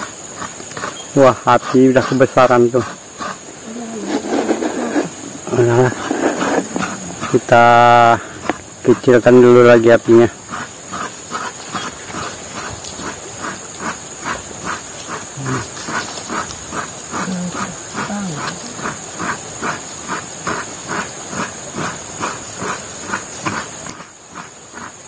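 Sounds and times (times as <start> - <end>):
coconut grating rasping strokes: 0.0 - 25.0.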